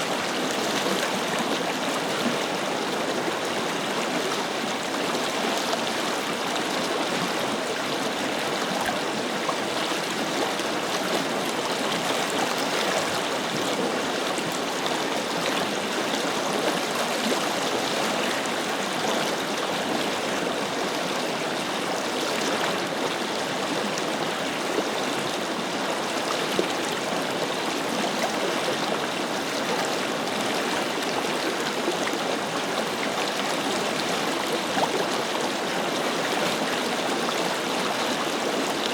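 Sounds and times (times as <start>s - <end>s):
river flowing over stones: 0.0s - 38.9s.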